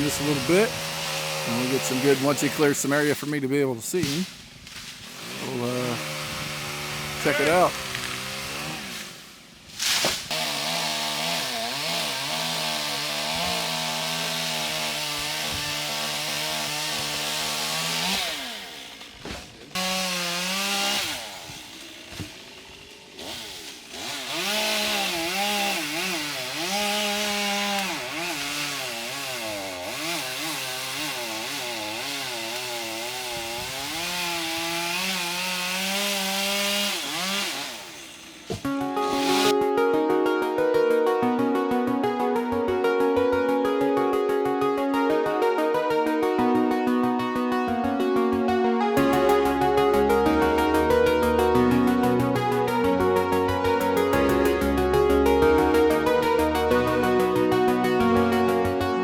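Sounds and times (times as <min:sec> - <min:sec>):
chainsaw cutting wood: 0:00.0 - 0:39.9, 0:48.9 - 0:59.0.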